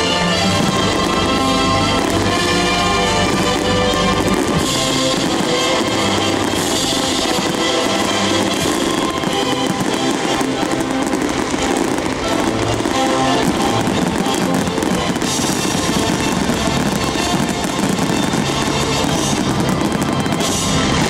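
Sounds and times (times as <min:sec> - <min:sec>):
fireworks bursting: 0:00.0 - 0:21.0
loud music: 0:00.0 - 0:21.0.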